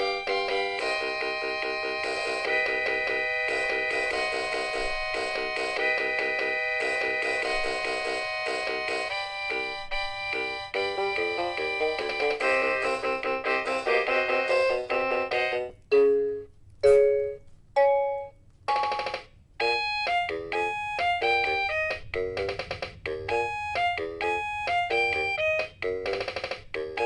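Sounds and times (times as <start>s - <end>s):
toy keyboard beeping tones: 0.0s - 27.0s.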